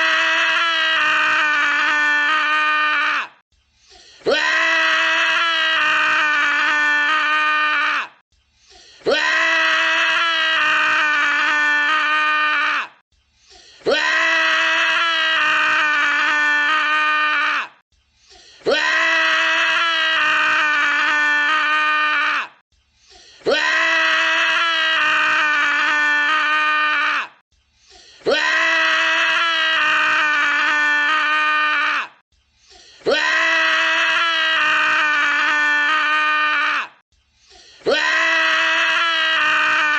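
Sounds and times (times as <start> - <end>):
man screaming: 0.0 - 3.4, 4.2 - 8.2, 9.0 - 13.0, 13.8 - 17.8, 18.6 - 22.6, 23.4 - 27.4, 28.2 - 32.2, 33.0 - 37.0, 37.8 - 39.9.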